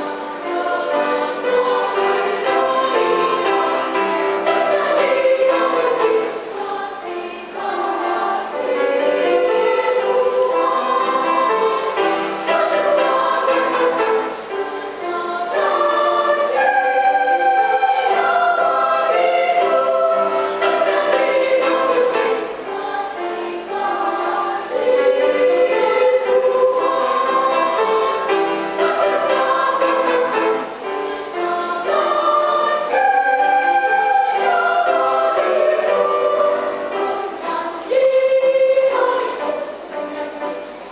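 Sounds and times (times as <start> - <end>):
children's choir singing: 0.0 - 40.9.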